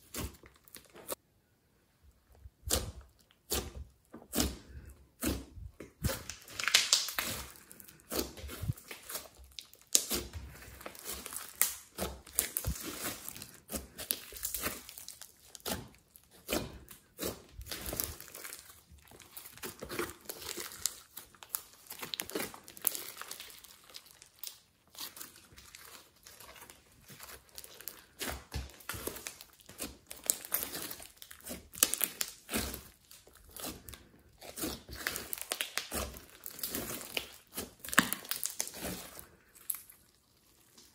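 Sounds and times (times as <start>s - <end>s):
slime crackling and popping: 5.2s - 40.9s.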